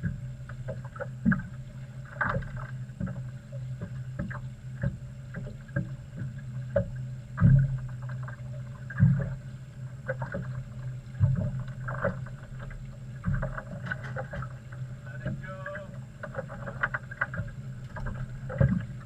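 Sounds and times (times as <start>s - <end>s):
steady low hum: 0.0s - 19.0s
water slapping against boat hull: 0.0s - 19.0s.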